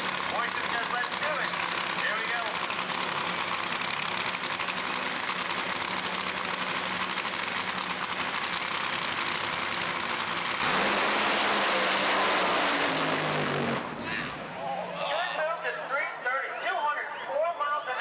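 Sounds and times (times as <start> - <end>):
drag racing engine crackling and revving: 0.0 - 14.4.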